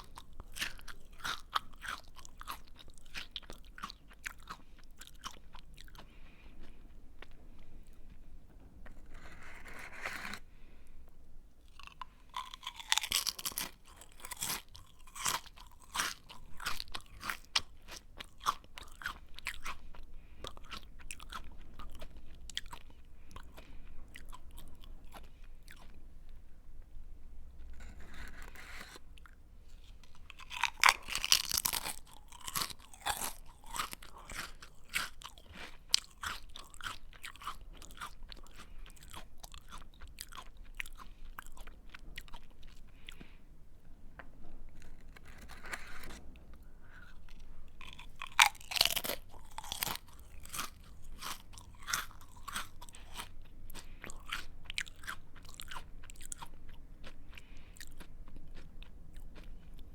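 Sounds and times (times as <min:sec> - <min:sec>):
chewing crunchy snack: 0:00.0 - 0:10.5, 0:11.6 - 0:26.9, 0:27.5 - 0:43.4, 0:44.2 - 0:59.9.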